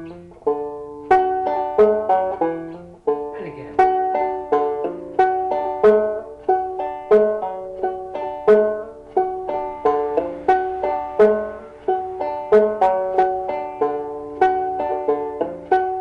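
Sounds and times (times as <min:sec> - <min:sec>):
banjo plucked melody: 0:00.0 - 0:16.0.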